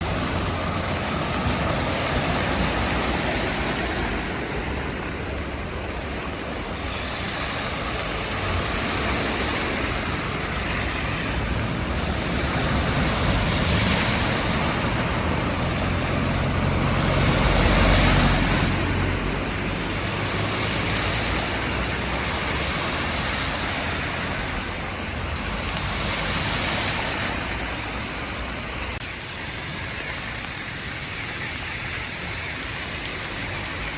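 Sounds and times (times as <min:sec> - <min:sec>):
heavy rain: 0:00.0 - 0:33.9
tyres driving through water: 0:00.0 - 0:33.9.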